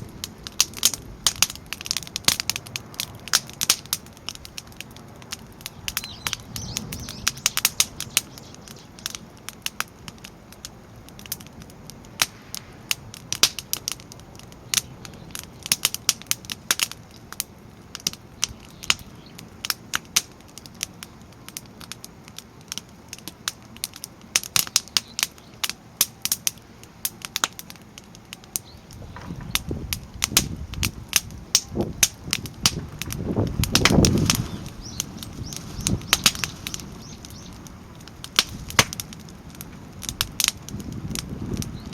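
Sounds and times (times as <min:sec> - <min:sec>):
firewood crackling and popping: 0:00.0 - 0:41.9.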